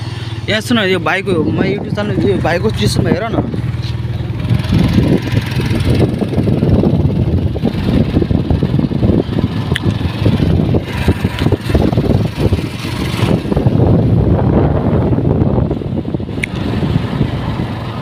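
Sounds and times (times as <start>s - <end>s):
motorcycle engine running: 0.0s - 18.0s
wind rumbling on microphone: 0.6s - 18.0s.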